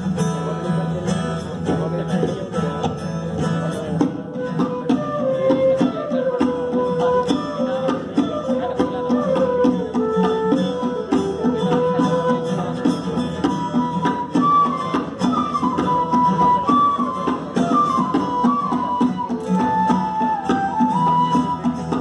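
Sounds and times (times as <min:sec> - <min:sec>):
dholak drum beat: 0:00.0 - 0:22.0
strummed acoustic guitar: 0:00.0 - 0:22.0
flute melody: 0:04.0 - 0:22.0.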